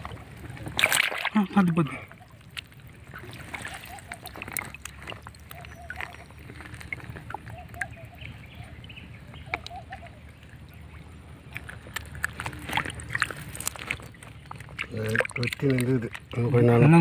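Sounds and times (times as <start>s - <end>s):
low steady rumble: 0.0s - 3.5s, 4.1s - 17.0s
water sloshing and splashing: 0.0s - 17.0s.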